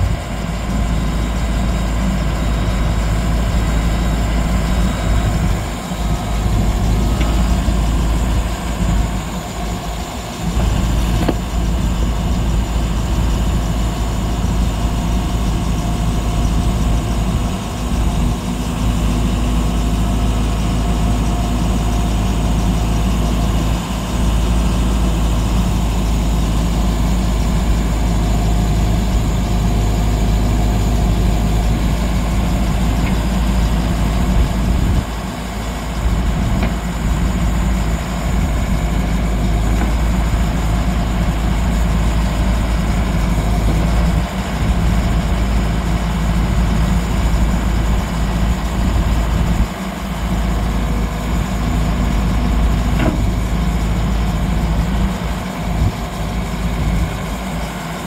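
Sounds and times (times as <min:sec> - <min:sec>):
diesel engine running: 0:00.0 - 0:58.0
hydraulic boom working: 0:00.0 - 0:58.0.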